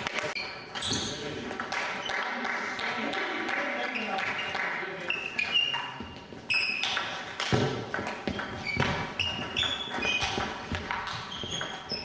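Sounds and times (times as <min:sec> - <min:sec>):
table tennis ball pinging: 0:00.0 - 0:02.4, 0:03.4 - 0:12.0.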